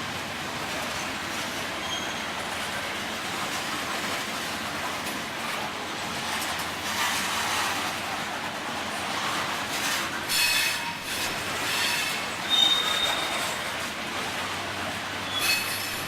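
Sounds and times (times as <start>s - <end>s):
freight train wheels on rails: 0.0s - 16.0s.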